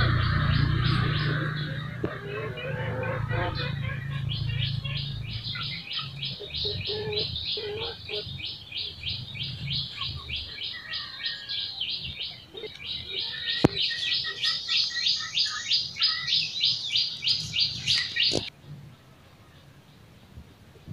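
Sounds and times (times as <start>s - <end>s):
bird chirping: 0.0s - 20.4s.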